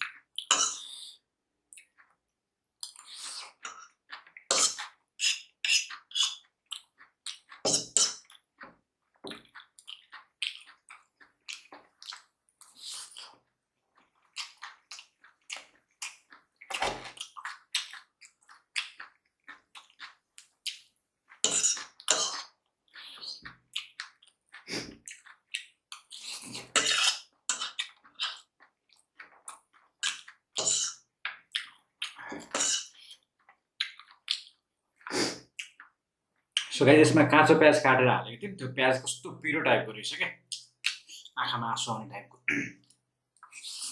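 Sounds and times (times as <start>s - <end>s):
noodle slurping and chewing: 0.0s - 36.7s, 42.8s - 43.9s.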